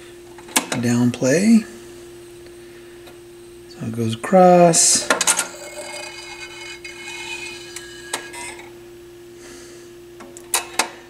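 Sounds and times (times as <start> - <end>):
turntable humming: 0.0 - 11.0.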